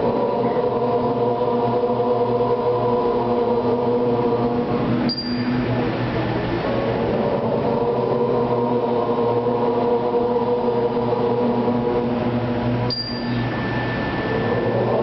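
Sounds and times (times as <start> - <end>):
low steady drone: 0.0 - 15.0.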